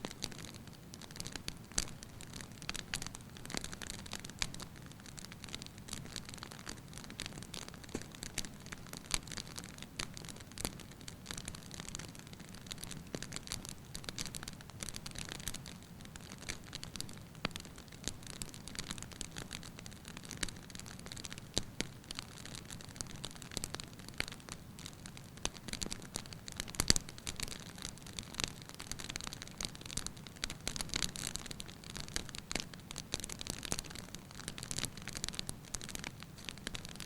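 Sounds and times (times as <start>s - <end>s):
logs crackling and popping: 0.0s - 37.0s.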